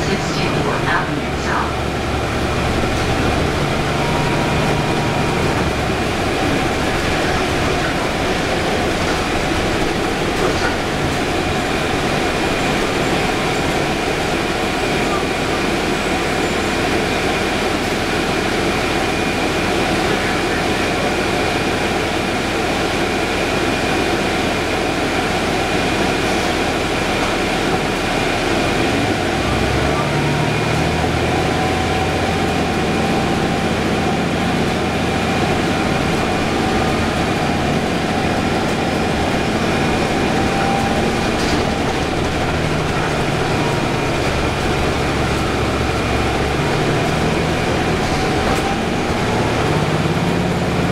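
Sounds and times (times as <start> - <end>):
bus drivetrain hum with whine: 0.0 - 50.9
bus engine accelerating: 0.0 - 50.9.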